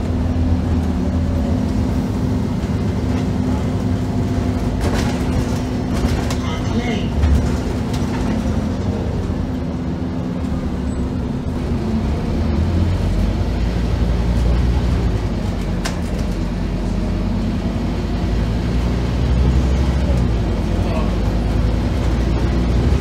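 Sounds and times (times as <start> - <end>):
bus diesel engine droning: 0.0 - 23.0.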